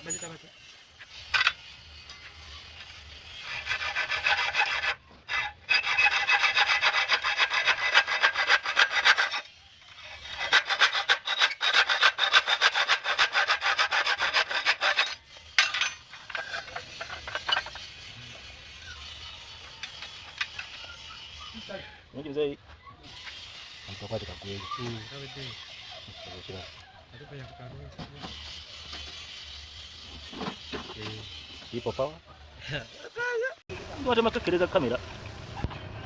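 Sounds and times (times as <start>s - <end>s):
saw cutting with rasping strokes: 0.0s - 22.1s, 23.0s - 33.1s.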